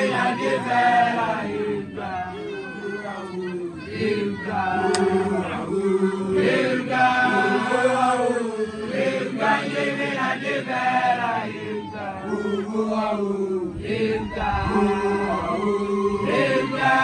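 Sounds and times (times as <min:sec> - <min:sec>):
male voices chanting in unison: 0:00.0 - 0:17.0.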